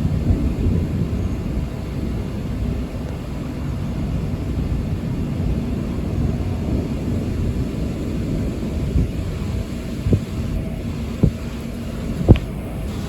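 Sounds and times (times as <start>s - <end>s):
rolling thunder rumble: 0.0s - 13.0s.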